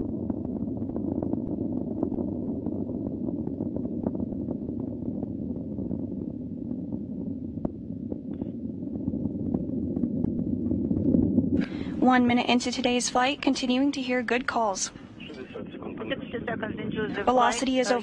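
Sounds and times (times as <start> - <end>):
rocket engine rumble: 0.0 - 18.0.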